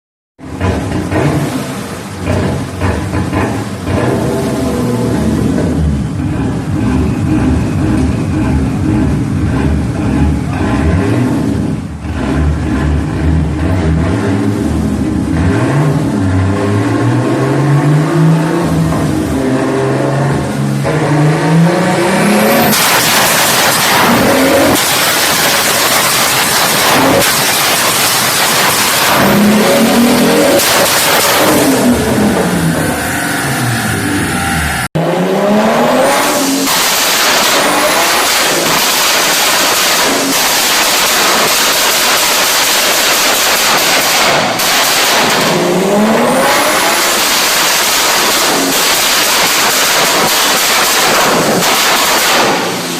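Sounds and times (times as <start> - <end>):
car engine revving: 0.4 - 52.9.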